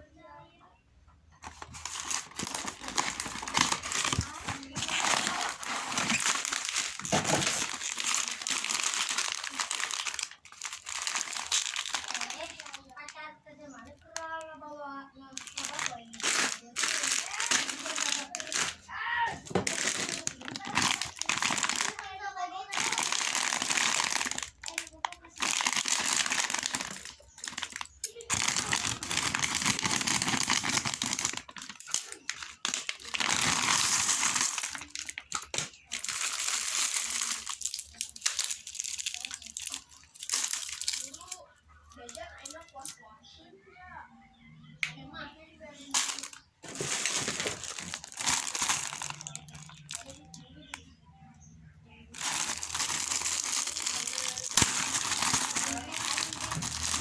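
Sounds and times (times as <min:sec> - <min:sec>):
plastic wrappers crinkling: 0:01.3 - 0:42.9, 0:45.7 - 0:50.8, 0:52.1 - 0:57.0.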